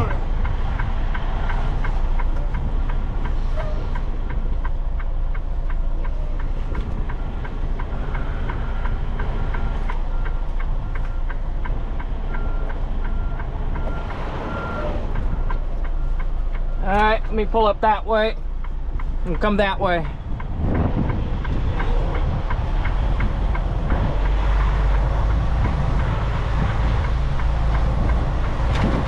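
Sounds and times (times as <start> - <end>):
diesel truck engine rumble: 0.0 - 29.0.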